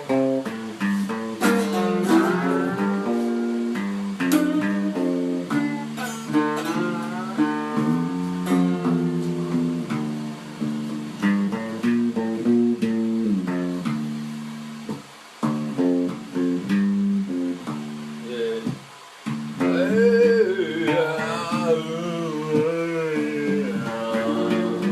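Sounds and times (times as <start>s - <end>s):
guitar playing plucked notes: 0.0s - 24.9s.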